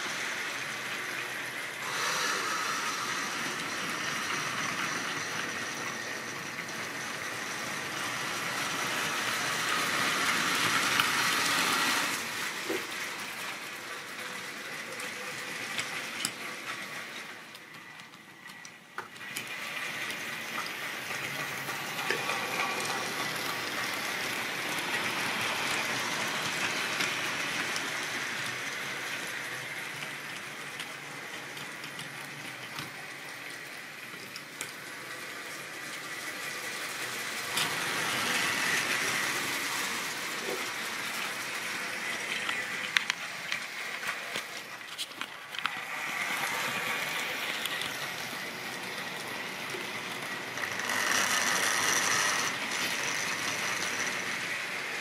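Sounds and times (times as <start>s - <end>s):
model train rattling and whirring: 0.0s - 55.0s.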